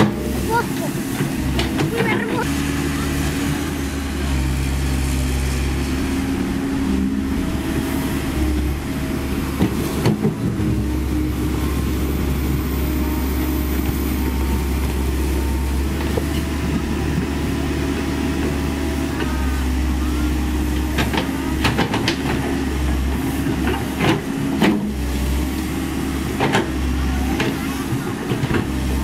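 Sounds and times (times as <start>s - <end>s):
excavator diesel engine: 0.0s - 29.0s.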